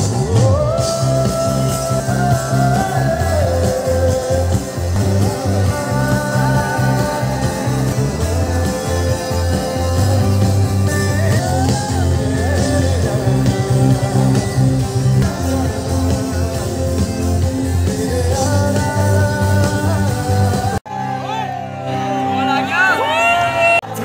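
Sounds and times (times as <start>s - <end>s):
person singing: 0.0s - 22.3s
live band playing: 0.0s - 24.0s.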